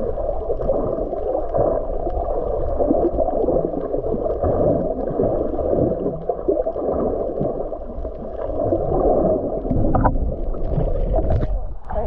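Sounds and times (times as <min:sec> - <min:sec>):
water churning and gurgling: 0:00.0 - 0:12.0.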